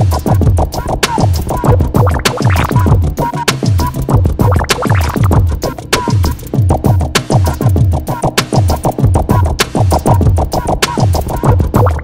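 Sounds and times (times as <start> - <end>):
electronic music with fast beat: 0.0 - 12.0.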